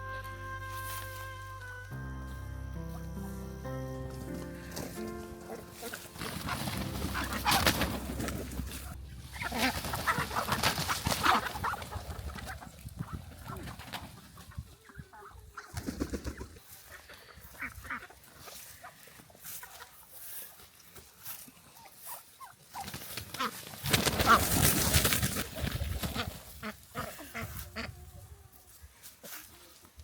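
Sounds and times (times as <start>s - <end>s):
poultry calling and clucking: 2.8s - 29.8s.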